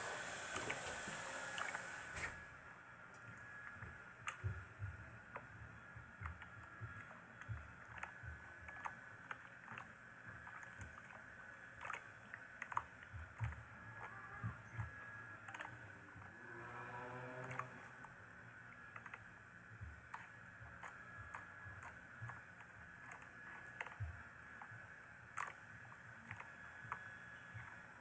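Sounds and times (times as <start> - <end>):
low steady hum: 0.0 - 28.0
faint irregular clicks: 3.1 - 28.0.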